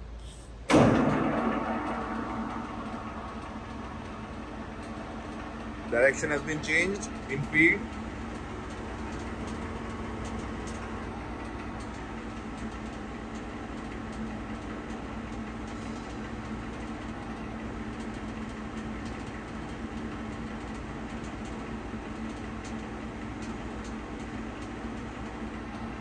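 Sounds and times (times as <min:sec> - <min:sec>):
lathe humming: 0:01.2 - 0:23.2.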